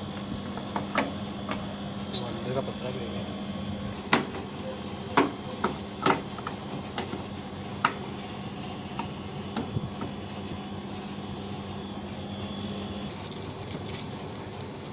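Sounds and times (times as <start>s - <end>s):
low machine hum: 0.0s - 14.9s.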